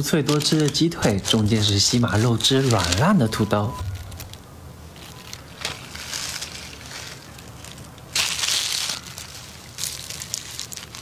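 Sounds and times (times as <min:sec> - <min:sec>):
crunching fried chicken: 0:00.0 - 0:04.4, 0:05.0 - 0:11.0.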